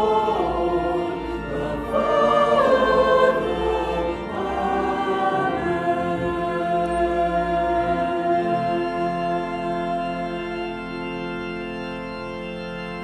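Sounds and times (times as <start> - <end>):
choir singing: 0.0 - 10.9.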